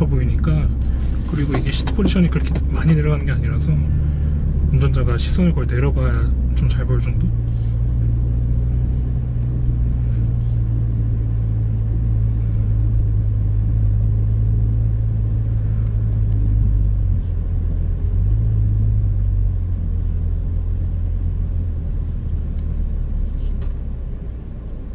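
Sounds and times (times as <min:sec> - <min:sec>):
car engine rumble in cabin: 0:00.0 - 0:24.9.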